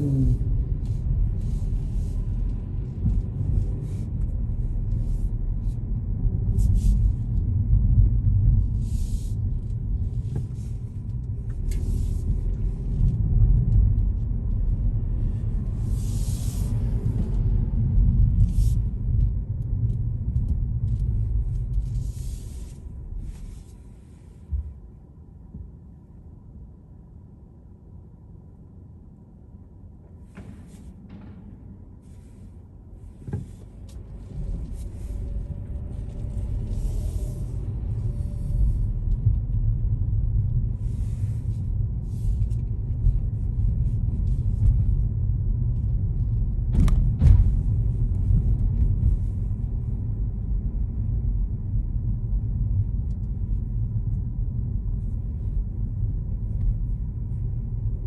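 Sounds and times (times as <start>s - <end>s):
car driving rumble: 0.0s - 26.0s, 30.0s - 58.0s.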